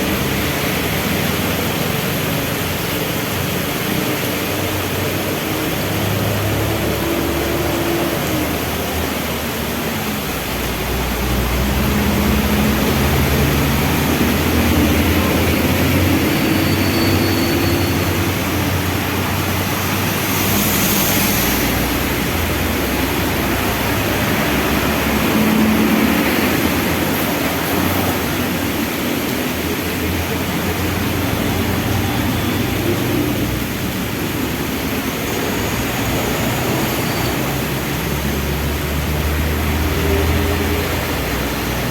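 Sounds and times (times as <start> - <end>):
heavy rain: 0.0 - 41.9
vehicle engines in traffic: 0.0 - 41.9.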